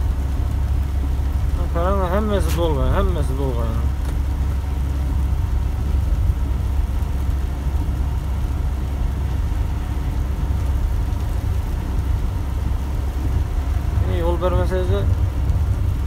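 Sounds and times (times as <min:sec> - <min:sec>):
truck engine drone: 0:00.0 - 0:16.0
tyres on wet road: 0:00.0 - 0:16.0.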